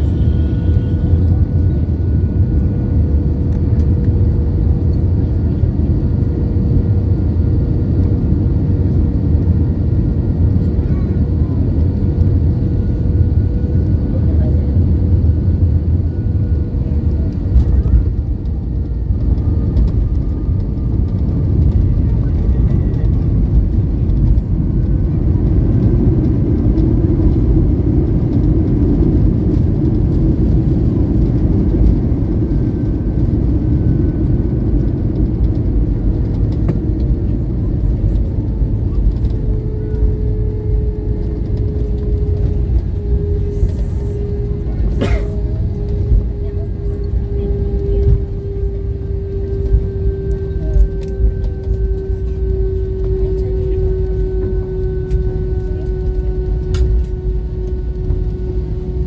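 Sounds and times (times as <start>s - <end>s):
aircraft cabin engine rumble: 0.0s - 59.0s
steady engine tone: 0.0s - 59.0s.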